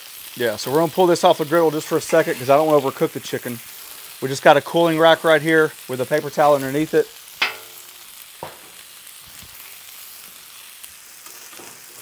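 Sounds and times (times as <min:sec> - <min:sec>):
vegetables sizzling on griddle: 0:00.0 - 0:12.0.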